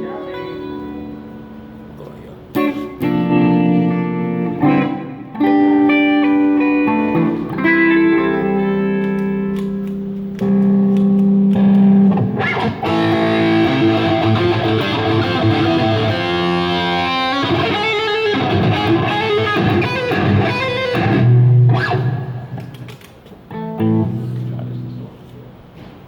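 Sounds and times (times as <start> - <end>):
electric guitar playing: 0.0 - 25.6.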